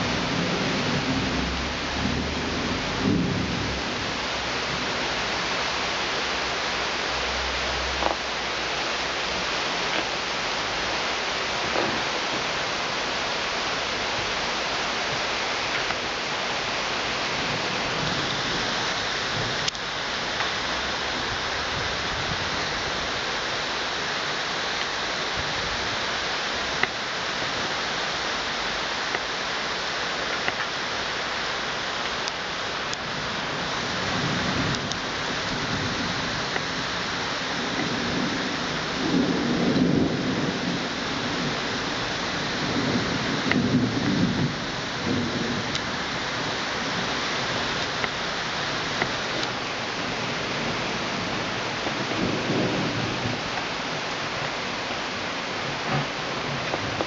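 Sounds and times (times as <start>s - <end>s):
thunder rumbling: 0.0s - 24.1s, 32.1s - 57.0s
heavy rain pouring: 0.0s - 57.0s
raindrops ticking close by: 0.0s - 57.0s.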